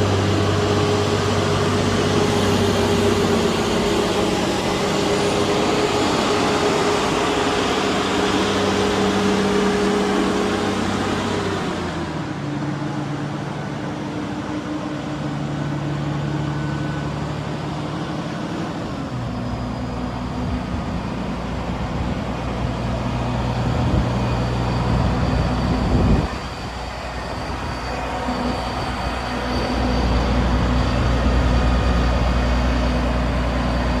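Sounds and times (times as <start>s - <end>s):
combine harvester engine running: 0.0s - 34.0s.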